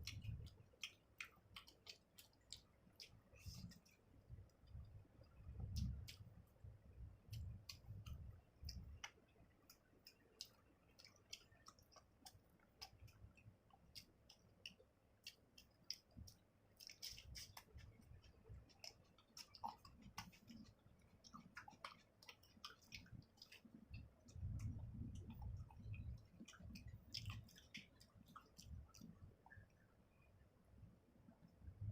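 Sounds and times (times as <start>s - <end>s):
wet mouth clicks and smacks: 0.0s - 6.4s, 7.3s - 29.8s
close chewing: 0.0s - 29.8s.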